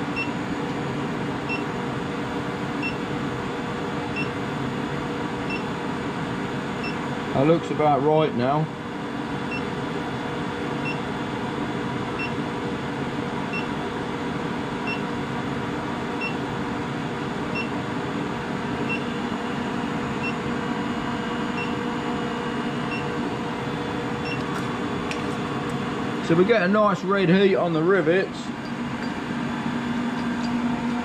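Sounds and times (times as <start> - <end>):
induction heater droning hum: 0.0 - 31.0.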